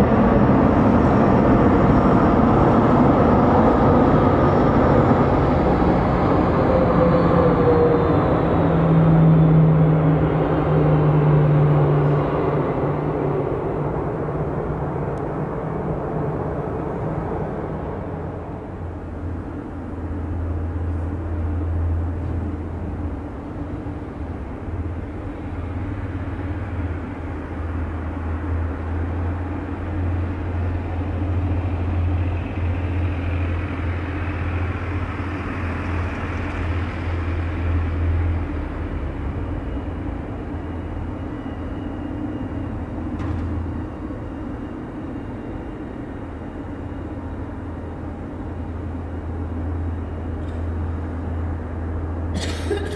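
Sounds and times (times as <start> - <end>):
airliner low hum and rumble: 0.0 - 52.9
faint high whine: 8.2 - 52.9.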